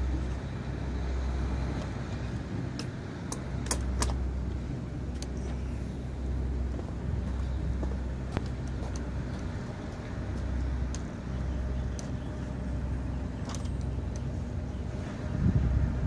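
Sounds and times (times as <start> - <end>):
vehicle motor rumbling: 0.0 - 16.0.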